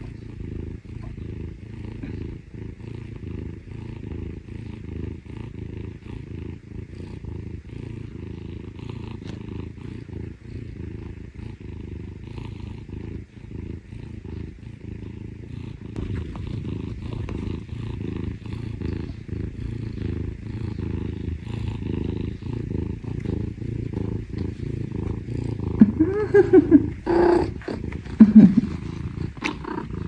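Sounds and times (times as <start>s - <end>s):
cat purring: 0.0s - 30.0s.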